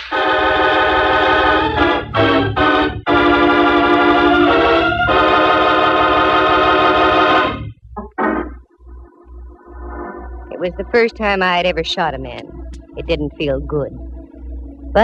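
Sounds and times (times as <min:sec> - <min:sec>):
organ chords: 0:00.0 - 0:15.0.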